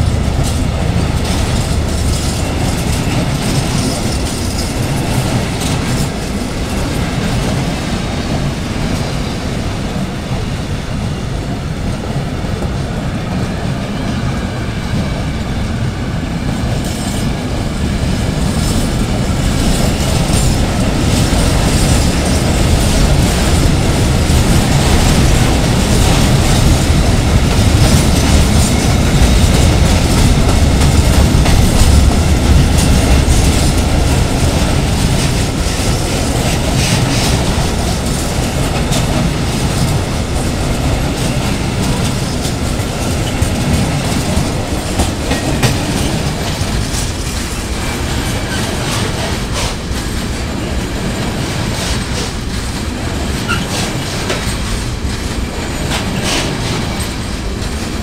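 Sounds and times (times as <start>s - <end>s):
train wheels clacking over joints: 0.0s - 7.8s, 16.6s - 58.0s
low train rumble: 0.0s - 58.0s.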